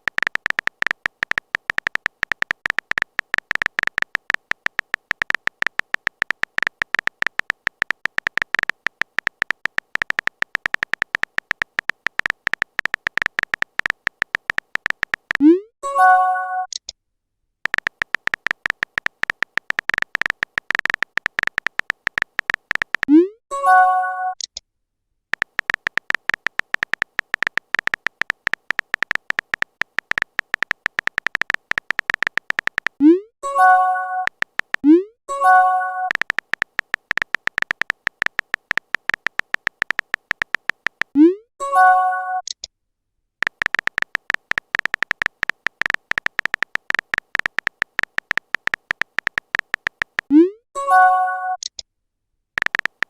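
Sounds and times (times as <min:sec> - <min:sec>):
rapid typing clicks: 0:00.0 - 0:15.5, 0:17.6 - 0:23.1, 0:25.3 - 0:41.2, 0:43.4 - 0:50.3, 0:52.6 - 0:53.0.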